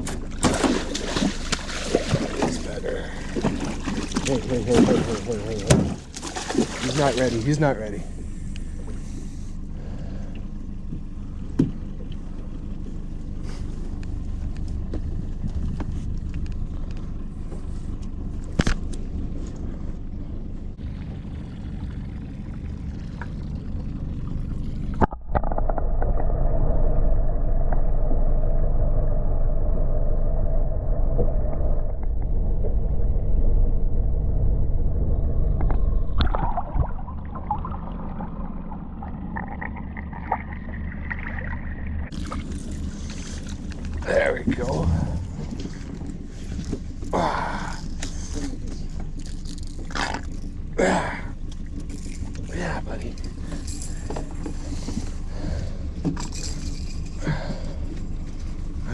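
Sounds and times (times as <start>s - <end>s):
outboard motor running: 0.0s - 26.6s, 27.8s - 58.9s
steady hum: 0.0s - 58.9s.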